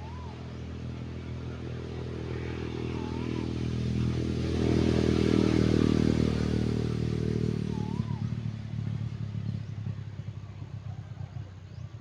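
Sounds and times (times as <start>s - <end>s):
engine hum approaching: 0.0s - 12.0s.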